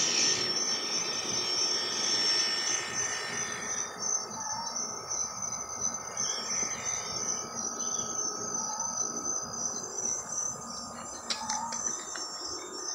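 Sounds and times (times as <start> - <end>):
crickets trilling: 0.0 - 12.9.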